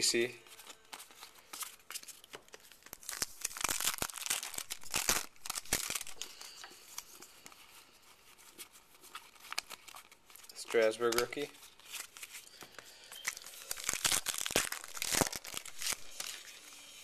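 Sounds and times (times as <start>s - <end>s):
foil wrapper crinkling and tearing: 0.4s - 17.0s.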